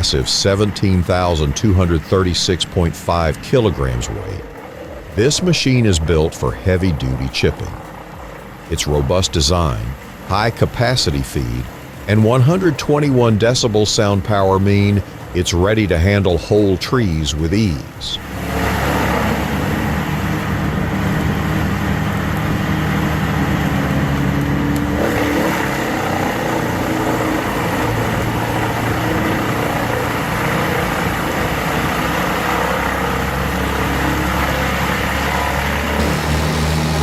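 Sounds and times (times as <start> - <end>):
tree chipper engine drone: 0.0 - 37.0.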